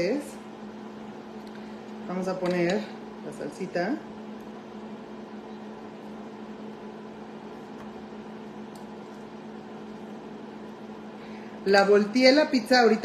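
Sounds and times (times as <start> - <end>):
appliance fan motor hum: 0.0 - 13.0.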